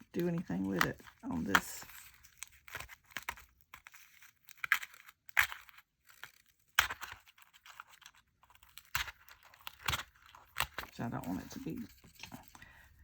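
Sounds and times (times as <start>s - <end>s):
paper and card rustling: 0.0s - 13.0s.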